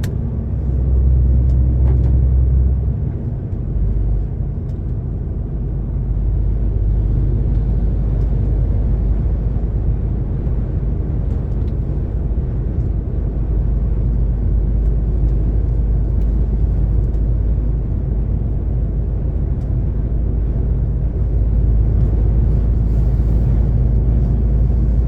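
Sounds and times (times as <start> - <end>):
road noise: 0.0 - 25.0
truck diesel engine drone: 0.0 - 25.0.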